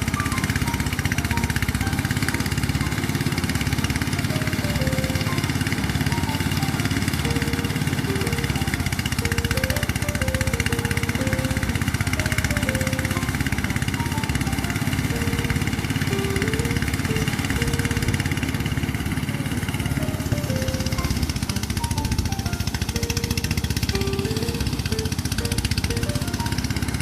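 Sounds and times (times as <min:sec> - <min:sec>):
engine running steadily: 0:00.0 - 0:27.0
faint melody of single notes: 0:00.0 - 0:27.0.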